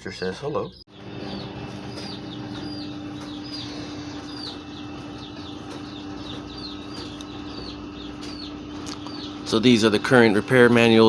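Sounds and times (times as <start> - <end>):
bird chirping: 0.0 - 11.0
steady low hum: 0.0 - 11.0.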